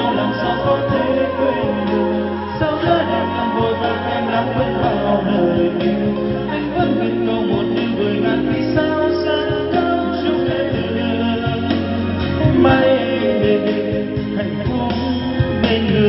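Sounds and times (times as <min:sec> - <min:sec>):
song with singing and instruments: 0:00.0 - 0:16.0
steady bass line: 0:00.0 - 0:16.0.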